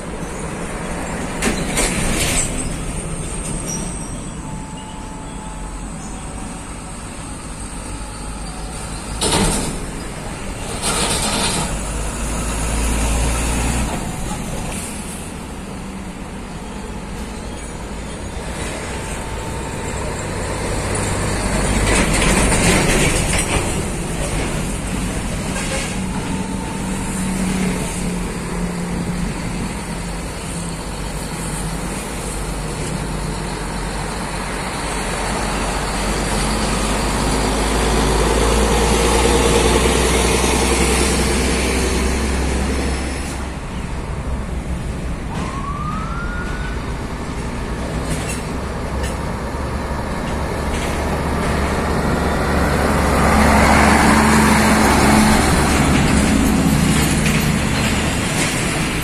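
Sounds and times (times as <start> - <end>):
diesel truck engine under load: 0.0 - 59.0
tyre and road noise: 0.0 - 59.0.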